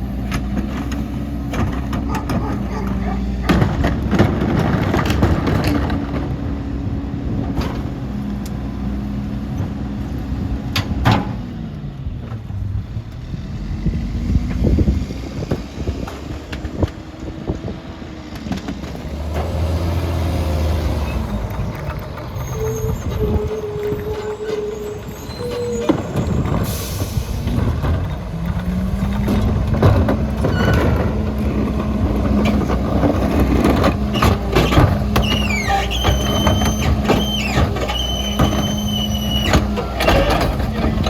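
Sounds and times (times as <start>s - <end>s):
garbage truck engine running: 0.0s - 41.0s.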